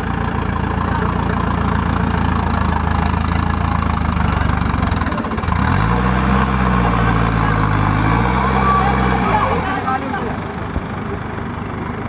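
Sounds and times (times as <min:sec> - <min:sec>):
jeep engine idling: 0:00.0 - 0:12.0.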